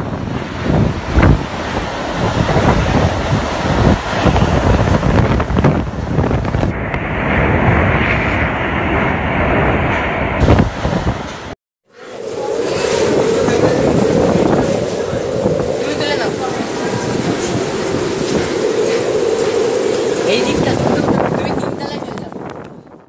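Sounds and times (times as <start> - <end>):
strong wind gusting: 0.0 - 23.0.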